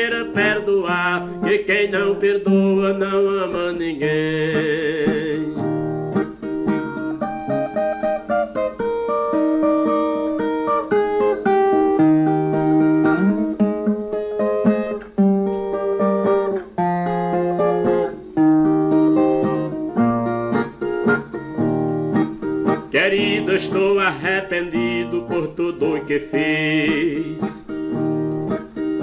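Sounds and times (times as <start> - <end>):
plucked guitar melody: 0.0 - 29.0.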